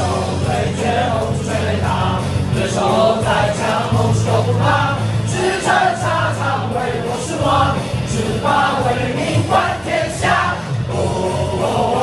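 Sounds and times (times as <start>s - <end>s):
crowd singing a chant: 0.0s - 12.0s.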